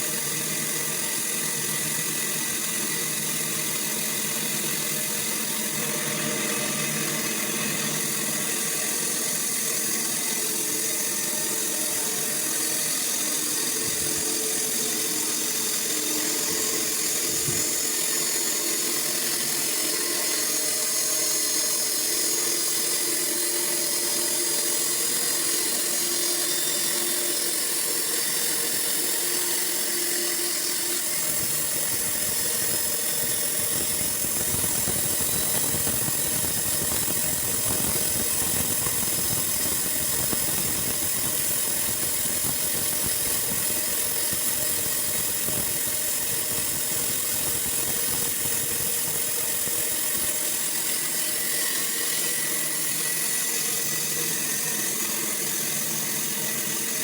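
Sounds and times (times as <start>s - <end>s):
sawmill machine noise: 0.0s - 57.0s.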